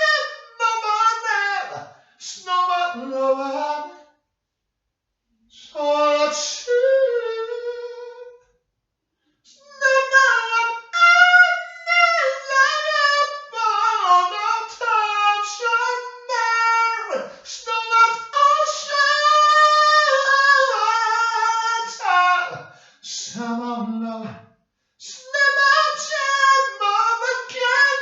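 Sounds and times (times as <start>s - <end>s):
high voice singing: 0.0s - 4.0s, 5.6s - 8.4s, 9.5s - 24.4s, 25.0s - 28.0s.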